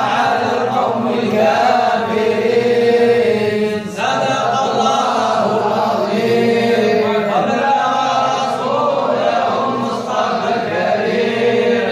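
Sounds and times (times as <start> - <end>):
men chanting in unison: 0.0 - 11.9.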